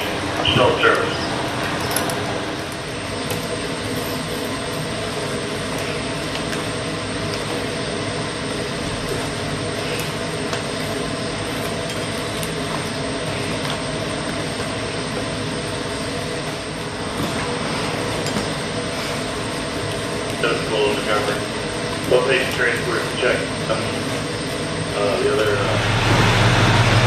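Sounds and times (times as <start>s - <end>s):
mechanical rumble with drone: 0.0s - 27.0s.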